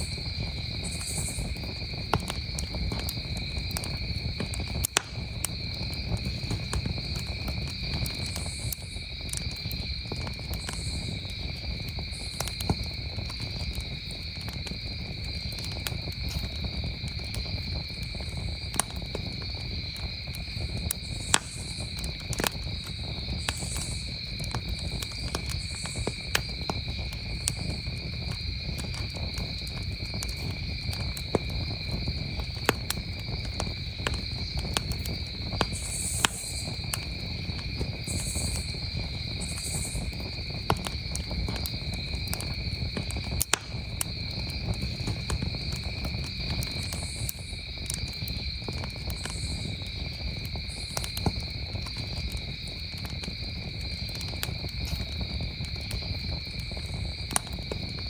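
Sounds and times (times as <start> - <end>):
campfire crackling: 0.0 - 58.0
crickets trilling: 0.0 - 58.0.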